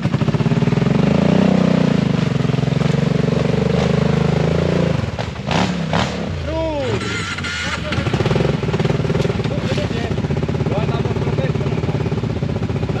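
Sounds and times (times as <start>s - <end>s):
quad engine revving: 0.0s - 13.0s
vehicle through mud and water: 0.0s - 13.0s.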